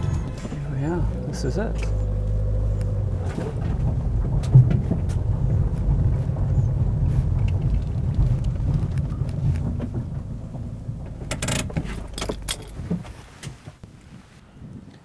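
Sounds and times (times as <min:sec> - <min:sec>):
sharp clicks and knocks: 0:00.0 - 0:13.6
car driving rumble: 0:00.0 - 0:14.4.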